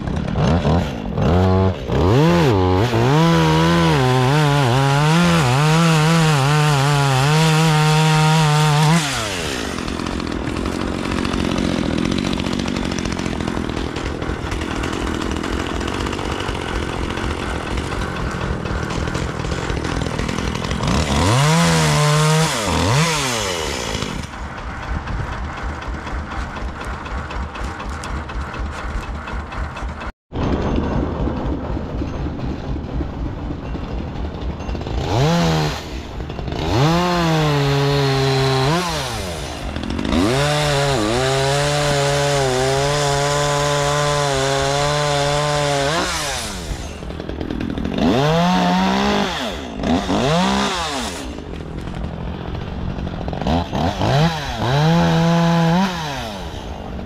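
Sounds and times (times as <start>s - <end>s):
chainsaw revving: 0.0s - 30.1s, 34.2s - 57.0s.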